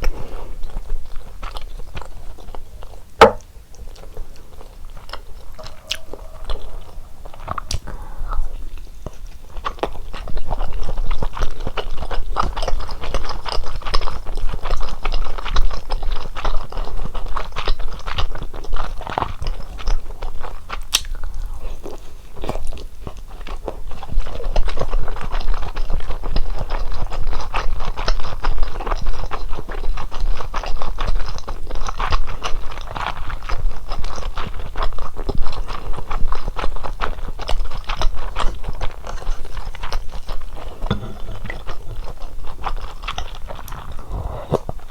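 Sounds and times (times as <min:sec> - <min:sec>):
wet chewing mouth sounds: 0:00.0 - 0:44.9.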